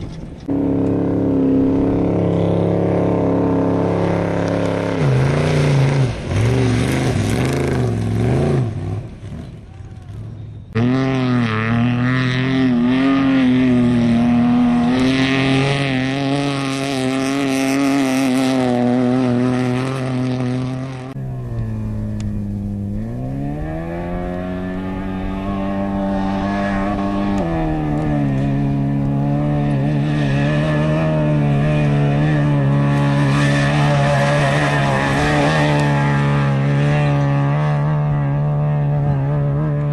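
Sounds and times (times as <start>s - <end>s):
race vehicle engine at high revs: 0.0s - 39.9s.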